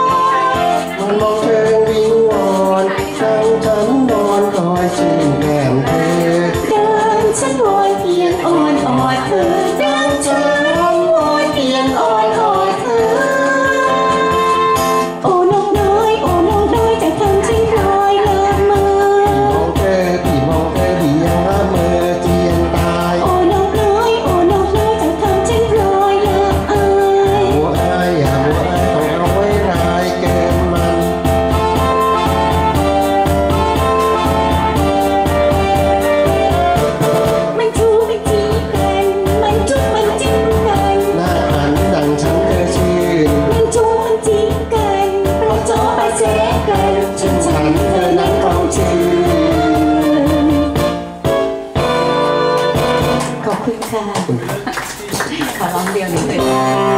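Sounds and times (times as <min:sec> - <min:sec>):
woman singing into microphone: 0:00.0 - 0:33.0, 0:37.5 - 0:50.9, 0:55.3 - 0:56.9
backing track with steady beat: 0:00.0 - 0:56.9.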